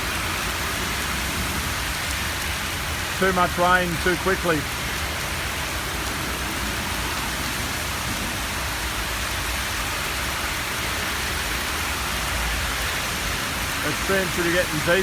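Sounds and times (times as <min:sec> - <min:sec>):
heavy rain on a flooded street: 0:00.0 - 0:15.0.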